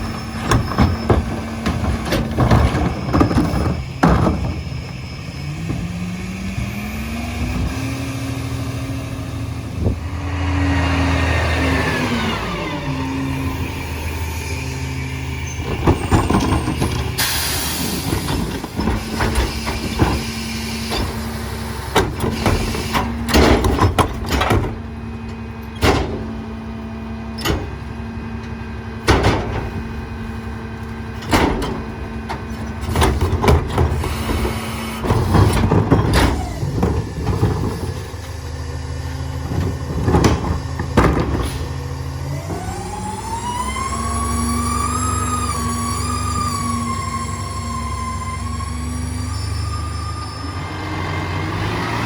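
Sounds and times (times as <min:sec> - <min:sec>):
garbage truck engine idling: 0:08.0 - 0:51.8.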